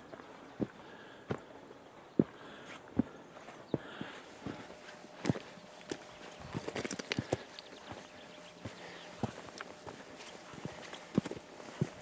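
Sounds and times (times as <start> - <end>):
footsteps on hiking trail: 0.0 - 12.0.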